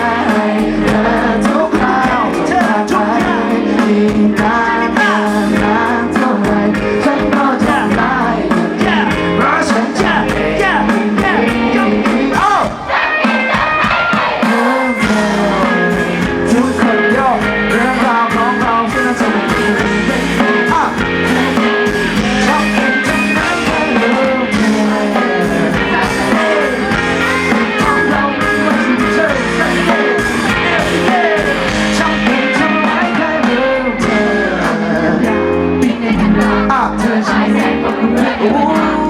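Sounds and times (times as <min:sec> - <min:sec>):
drums: 0:00.0 - 0:39.0
electric guitars: 0:00.0 - 0:39.0
person singing: 0:00.0 - 0:39.0.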